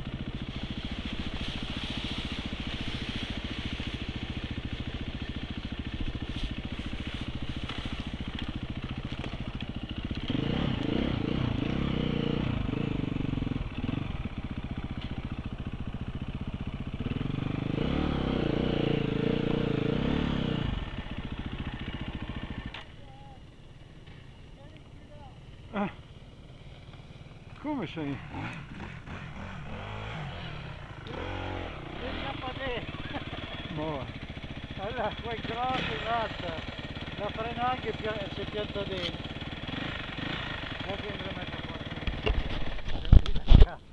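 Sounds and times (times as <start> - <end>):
motorcycle engine revving: 0.0 - 43.6.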